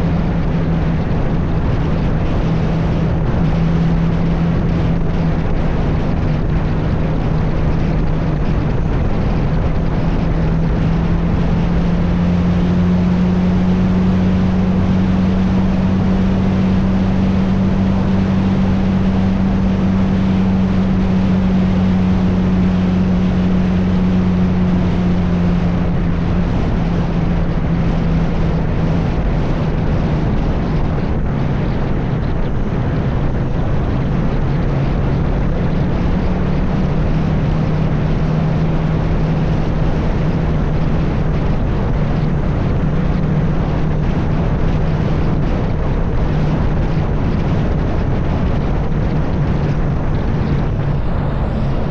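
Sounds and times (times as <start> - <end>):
road noise: 0.0 - 51.9
vehicle engine hum: 0.0 - 51.9
wind noise: 0.0 - 51.9.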